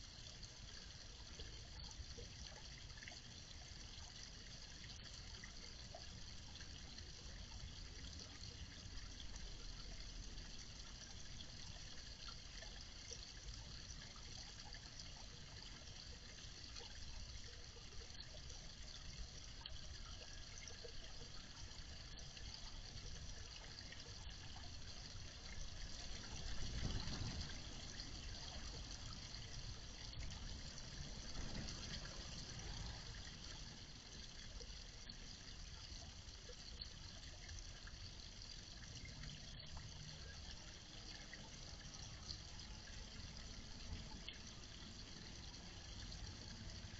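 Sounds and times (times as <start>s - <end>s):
water trickling in pond: 0.0s - 46.9s.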